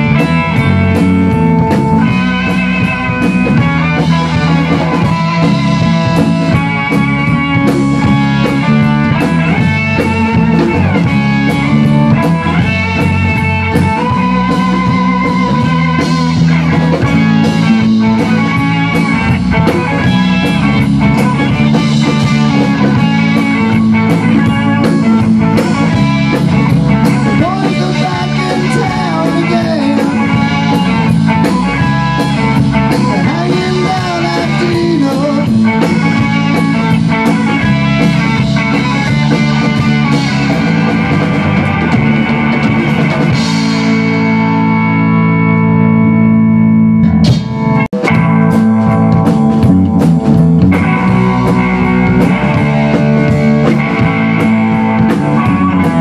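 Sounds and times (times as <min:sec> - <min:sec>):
drum kit with cymbals: 0:00.0 - 0:44.9, 0:47.0 - 0:56.0
bass guitar: 0:00.0 - 0:56.0
electric guitar lead lines: 0:00.0 - 0:56.0.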